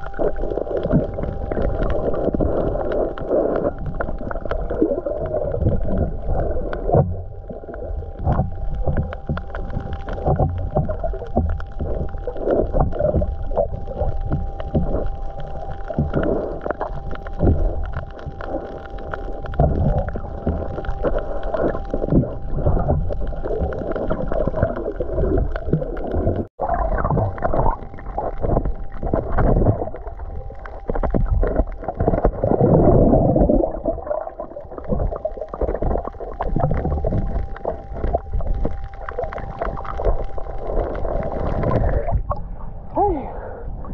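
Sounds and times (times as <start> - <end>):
faint steady tone: 0.0 - 43.9
underwater gurgling and sloshing: 0.0 - 43.9.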